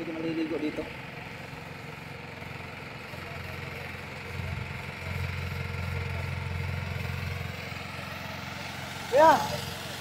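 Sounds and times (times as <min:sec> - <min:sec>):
machine engine running: 0:00.0 - 0:10.0.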